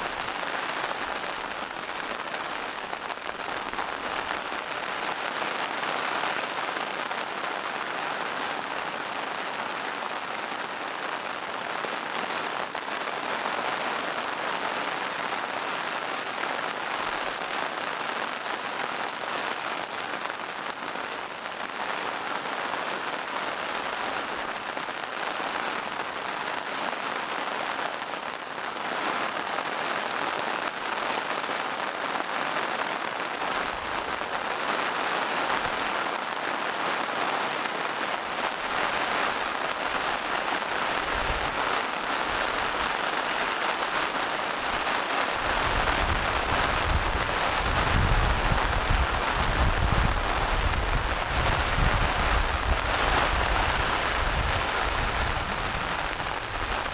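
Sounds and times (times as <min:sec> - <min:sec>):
rain on foliage: 0:00.0 - 0:56.9.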